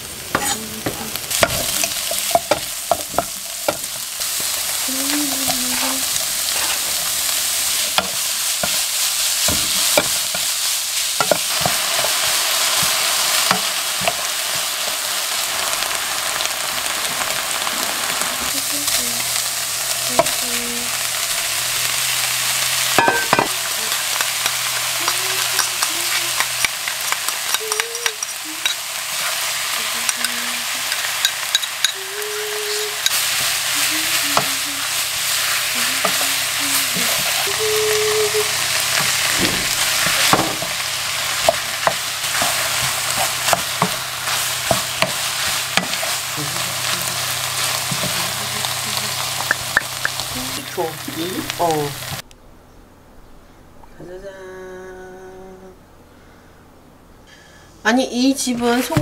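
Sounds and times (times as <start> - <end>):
food sizzling in a wok: 0.0 - 52.2.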